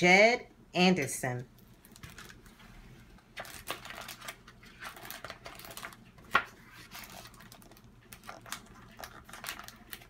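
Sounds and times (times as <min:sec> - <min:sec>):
book pages rustling: 0:01.9 - 0:10.0.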